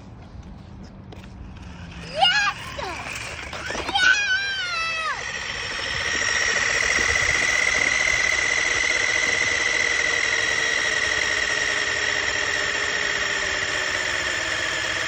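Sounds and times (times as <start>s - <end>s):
small electric motor whining: 1.1s - 15.0s.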